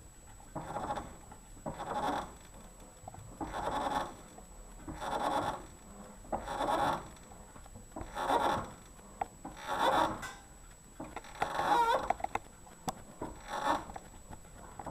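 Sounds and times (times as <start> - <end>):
suspension strut creaking: 0.5 - 2.8, 3.4 - 7.4, 8.0 - 10.4, 11.0 - 14.9.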